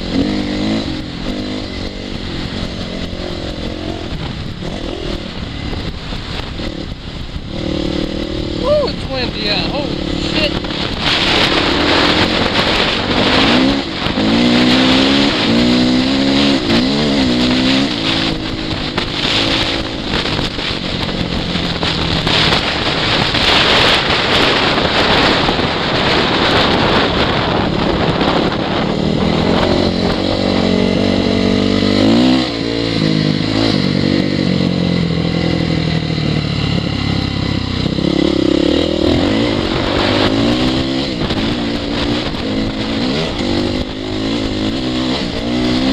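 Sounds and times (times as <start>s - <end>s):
motorcycle engine revving: 0.0s - 45.9s
wind blowing across microphone: 0.0s - 45.9s.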